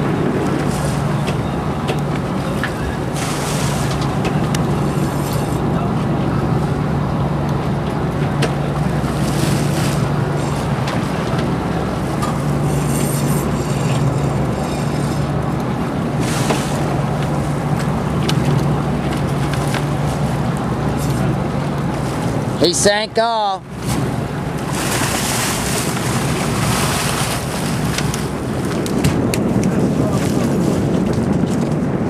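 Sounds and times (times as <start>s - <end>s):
boat engine humming: 0.0s - 32.0s
choppy water: 0.0s - 32.0s.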